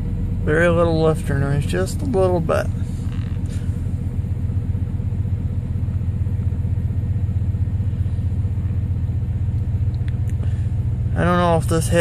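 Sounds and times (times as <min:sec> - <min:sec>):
engine lifter noise: 0:00.0 - 0:12.0
truck engine idling: 0:00.0 - 0:12.0.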